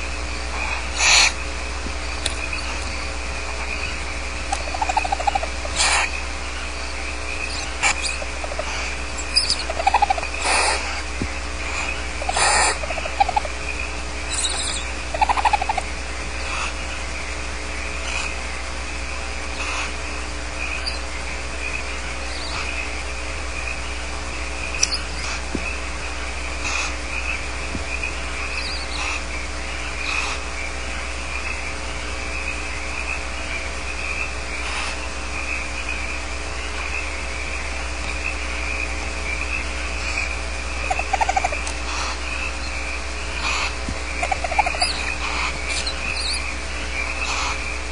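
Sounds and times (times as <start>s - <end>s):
owl chick chittering call: 0.0s - 47.9s
owl chicks rasping begging calls: 0.0s - 47.9s
steady electrical hum: 0.0s - 47.9s.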